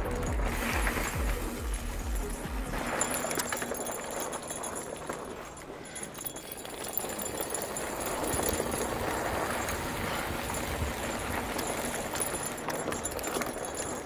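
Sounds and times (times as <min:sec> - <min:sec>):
bike rattling over bumps: 0:00.0 - 0:14.0
bike tyres rolling on dirt: 0:00.0 - 0:14.0.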